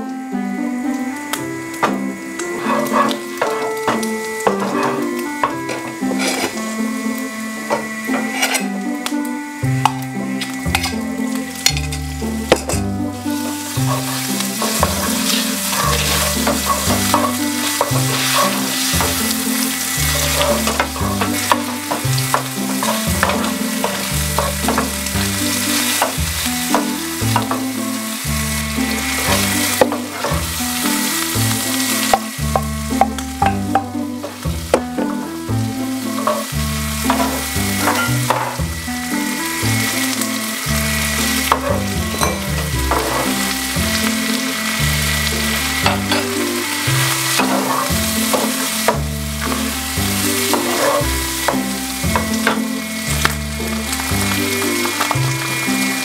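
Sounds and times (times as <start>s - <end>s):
chicken sizzling in hot oil: 0.0s - 56.0s
spatula scraping a pan: 1.8s - 6.7s, 7.6s - 8.8s, 10.4s - 35.2s, 35.9s - 38.7s, 39.3s - 56.0s.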